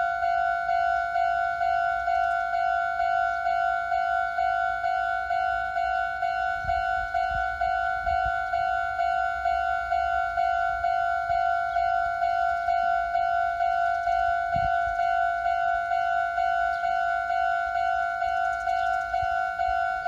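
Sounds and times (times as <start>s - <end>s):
electronic warning bell dinging: 0.0s - 20.0s.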